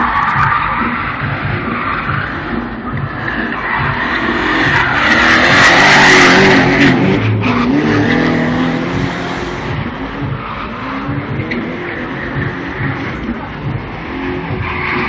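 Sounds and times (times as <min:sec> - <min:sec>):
car engine revving hard: 0:02.4 - 0:14.7.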